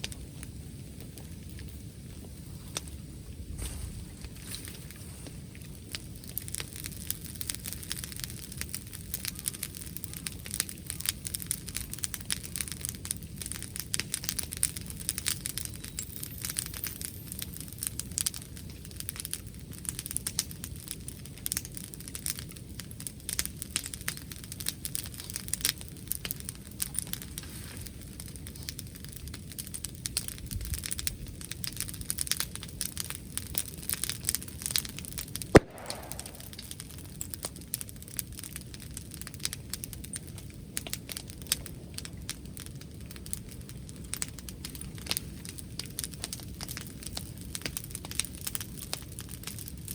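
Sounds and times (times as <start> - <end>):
bonfire crackling and popping: 0.0 - 49.9.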